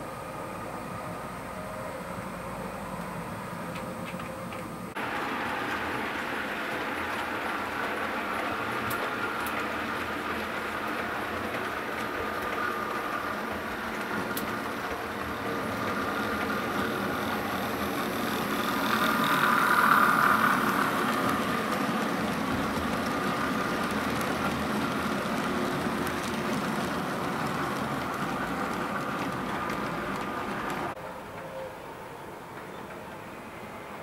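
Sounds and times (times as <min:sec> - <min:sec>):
model train wheels rumbling on rail: 0:02.9 - 0:31.0.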